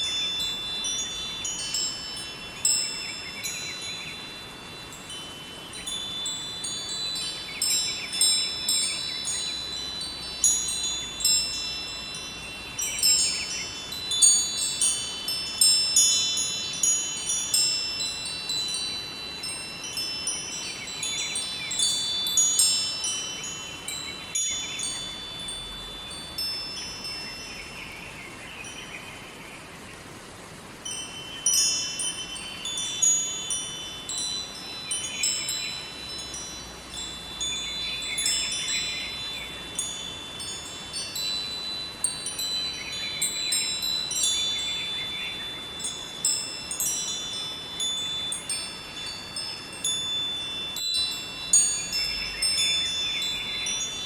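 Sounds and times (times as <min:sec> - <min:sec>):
metal wind chimes ringing: 0:00.0 - 0:29.3, 0:30.2 - 0:54.0
river water flowing: 0:00.0 - 0:54.0.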